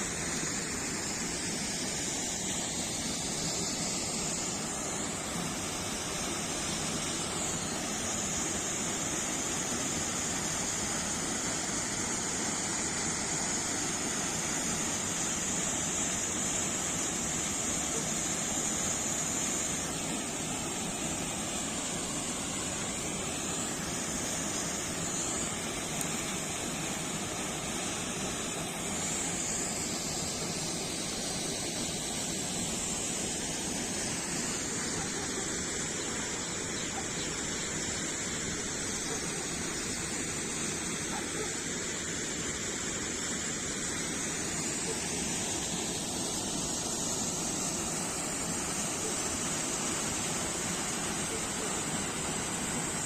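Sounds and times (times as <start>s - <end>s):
rush of falling water: 0.0s - 53.0s.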